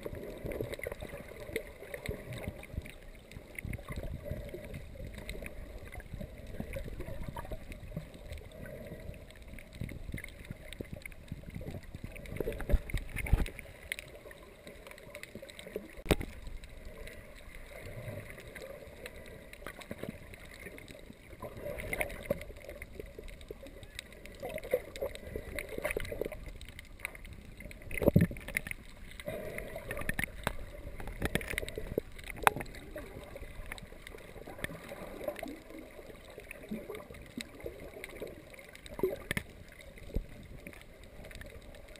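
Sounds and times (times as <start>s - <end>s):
water swishing and gurgling underwater: 0.0s - 41.9s.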